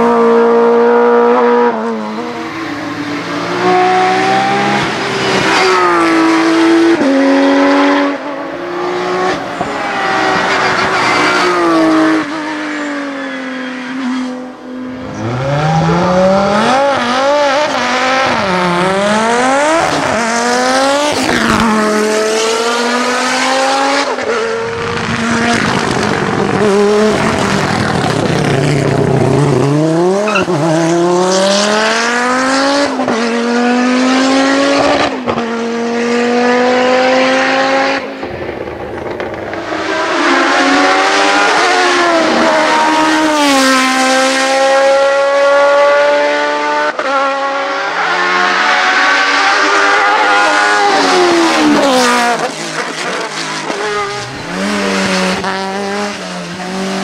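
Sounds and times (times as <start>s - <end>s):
distant cars revving: 0.0s - 57.0s
race car engine at full throttle: 0.0s - 57.0s
race car revving through gear changes: 0.0s - 57.0s.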